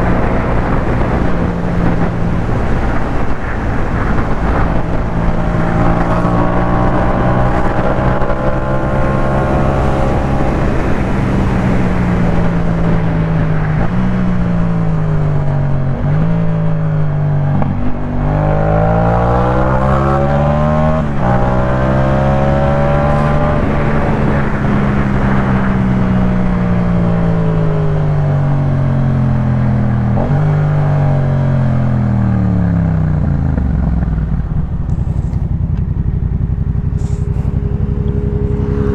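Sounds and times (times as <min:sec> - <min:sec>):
motorcycle engine revving: 0:00.0 - 0:27.6, 0:28.8 - 0:38.9
wind and road noise: 0:00.0 - 0:38.9.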